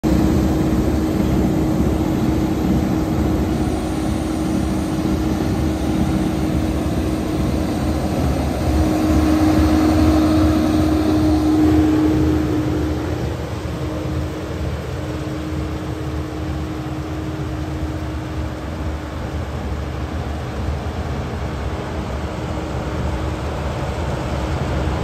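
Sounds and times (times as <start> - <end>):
combine harvester engine rumbling: 0.0 - 24.9.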